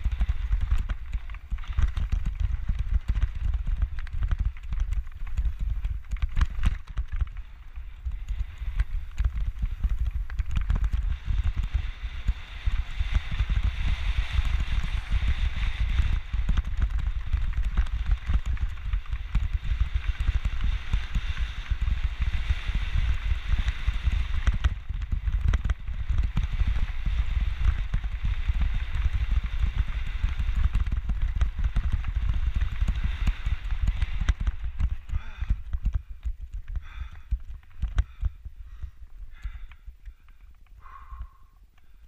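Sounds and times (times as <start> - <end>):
bike rattling: 0.0 - 42.0
wind buffeting microphone: 0.0 - 42.0.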